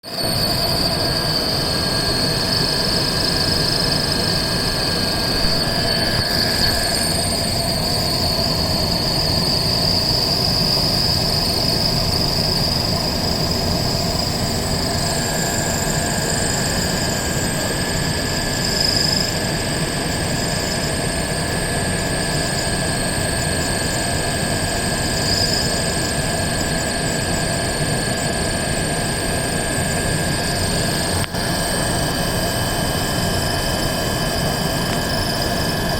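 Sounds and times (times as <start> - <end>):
air conditioner squealing: 0.0 - 35.9
air conditioner motor hum: 0.2 - 35.9.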